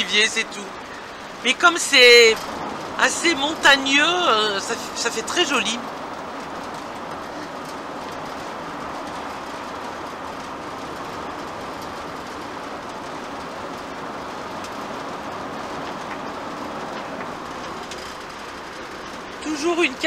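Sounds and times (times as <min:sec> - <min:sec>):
road noise inside vehicle cabin: 0:00.0 - 0:20.0.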